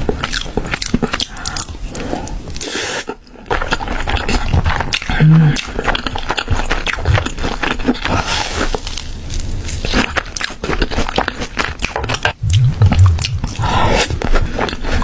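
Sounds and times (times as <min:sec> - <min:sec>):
crunchy chewing of fried food: 0:00.0 - 0:15.0.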